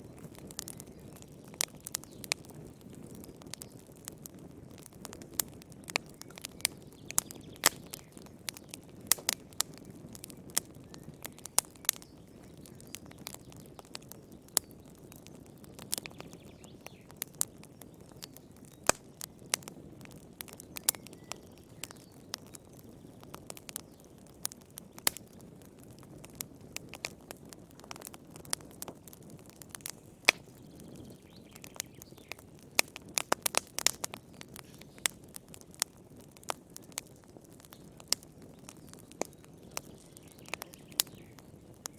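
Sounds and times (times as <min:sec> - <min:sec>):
campfire wood crackling and popping: 0:00.0 - 0:41.9.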